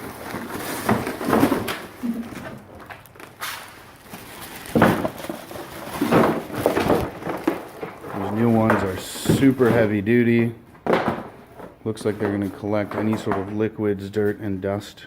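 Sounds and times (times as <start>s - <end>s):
floor mats bumping and rustling: 0.0s - 10.0s, 10.7s - 13.6s.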